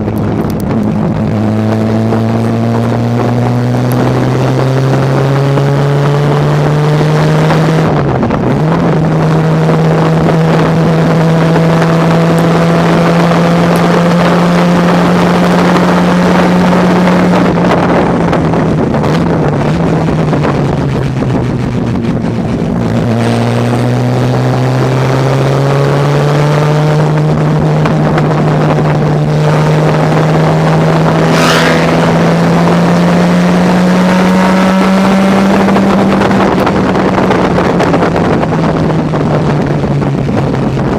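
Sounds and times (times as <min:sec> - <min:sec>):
racing car engine at high revs: 0:00.0 - 0:40.9.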